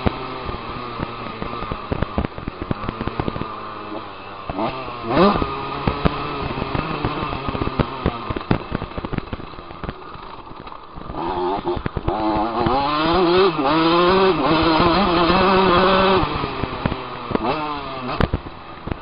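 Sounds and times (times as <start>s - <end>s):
dirt bike engine revving: 0.0s - 10.4s, 11.0s - 18.7s.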